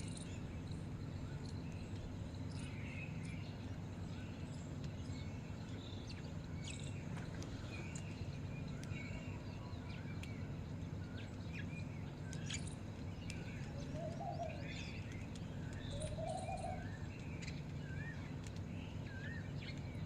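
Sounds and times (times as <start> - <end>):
birds chirping and twittering: 0.0 - 20.0
steady low hum: 0.0 - 20.0.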